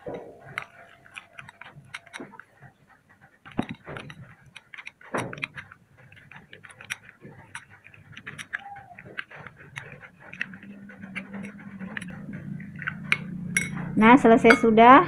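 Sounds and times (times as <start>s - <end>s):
metal spoon scraping a bowl: 0.4s - 2.4s, 3.5s - 14.7s.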